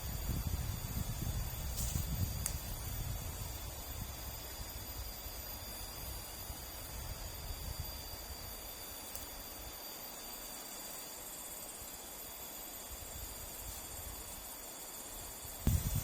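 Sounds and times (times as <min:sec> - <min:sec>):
faint hiss: 0:00.0 - 0:16.0
insects chirring: 0:00.0 - 0:16.0.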